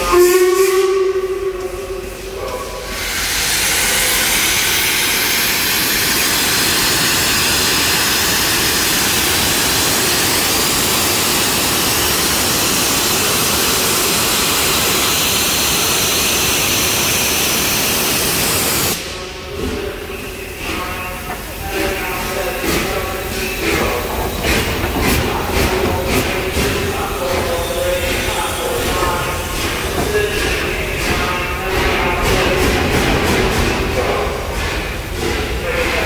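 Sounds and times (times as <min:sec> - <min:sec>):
steam hissing from locomotive: 0:02.0 - 0:36.0.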